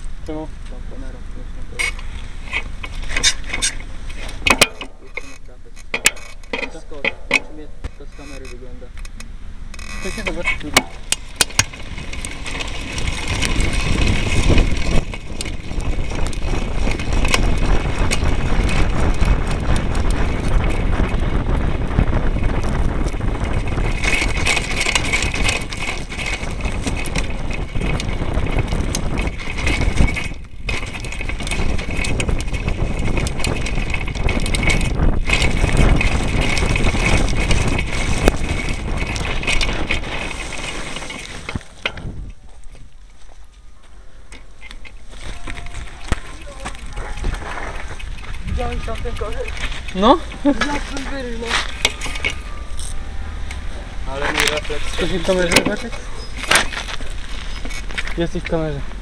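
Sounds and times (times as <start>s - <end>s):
mountain bike rattling over rough ground: 0.0s - 59.0s.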